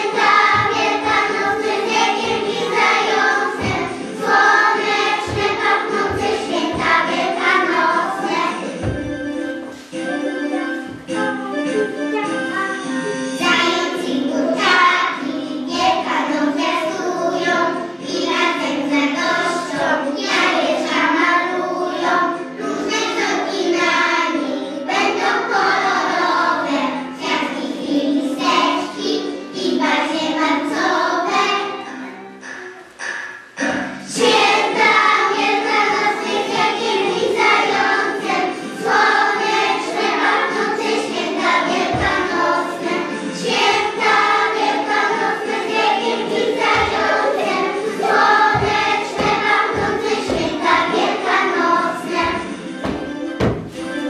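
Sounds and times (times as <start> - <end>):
children singing: 0.0 - 54.0
musical accompaniment: 0.0 - 54.0.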